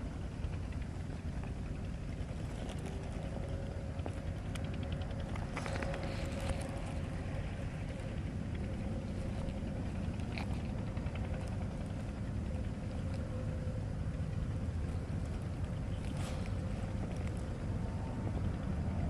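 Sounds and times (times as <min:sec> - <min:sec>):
faint steady tone: 0:00.0 - 0:19.0.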